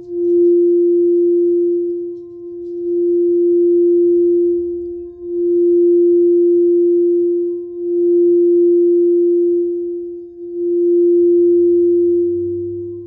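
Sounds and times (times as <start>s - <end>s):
singing bowl sustained tone: 0.0s - 13.0s.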